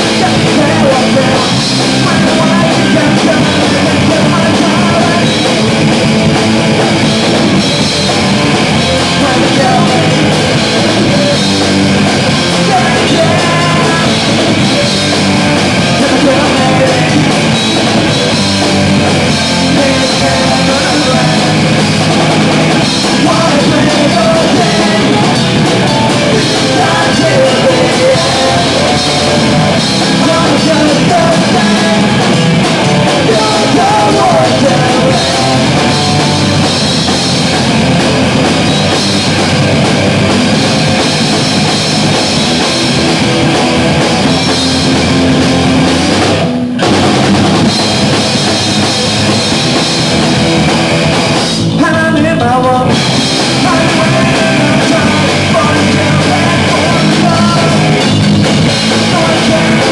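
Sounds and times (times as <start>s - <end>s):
punk rock band playing: 0.0s - 59.9s.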